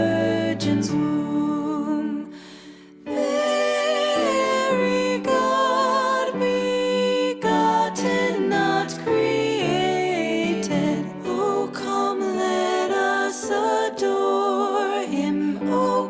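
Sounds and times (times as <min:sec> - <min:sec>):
slow song with sung melody: 0:00.0 - 0:16.0.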